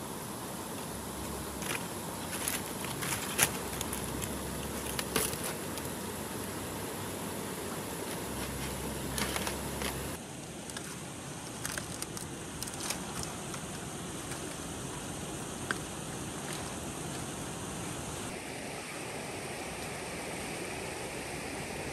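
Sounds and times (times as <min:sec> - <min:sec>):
outdoor background hiss: 0:00.0 - 0:21.9.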